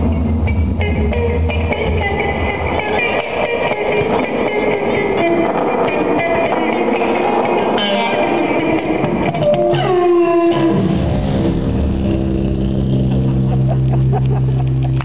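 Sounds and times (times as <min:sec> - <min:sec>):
electric guitar sliding tones: 0:00.0 - 0:15.0
low electric guitar drone: 0:00.0 - 0:15.0.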